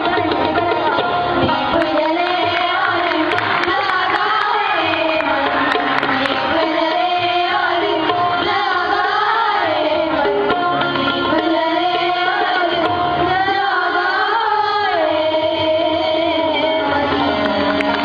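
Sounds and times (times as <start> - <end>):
girls singing: 1.7 - 18.0.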